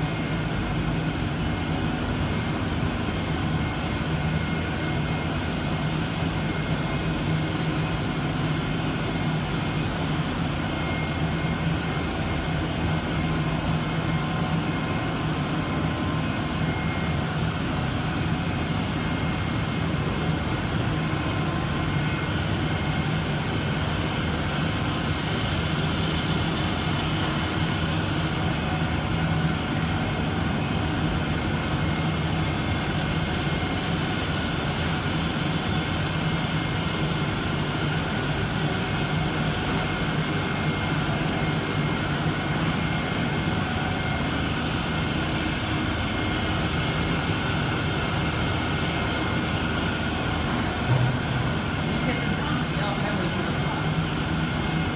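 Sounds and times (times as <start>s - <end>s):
printing machine whirring: 0.1s - 54.9s.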